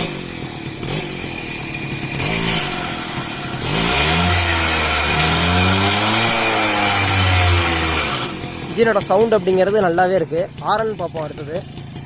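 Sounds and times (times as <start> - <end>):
moped engine revving: 0.0 - 12.0.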